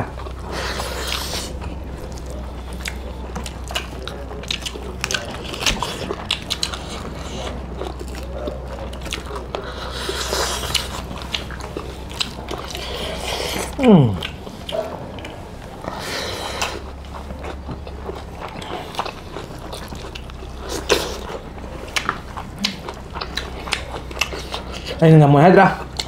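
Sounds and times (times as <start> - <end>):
low hum: 0.0 - 26.0
wet chewing and smacking: 0.0 - 26.0.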